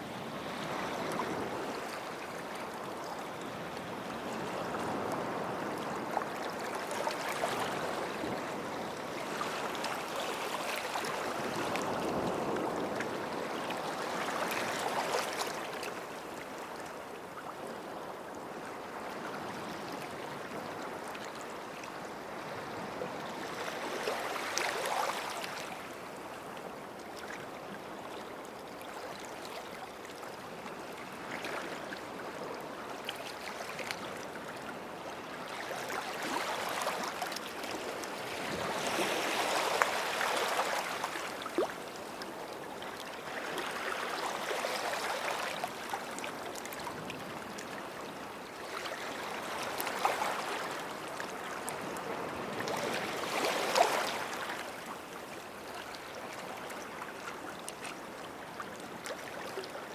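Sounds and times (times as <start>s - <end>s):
small waves lapping at shore: 0.0s - 59.9s.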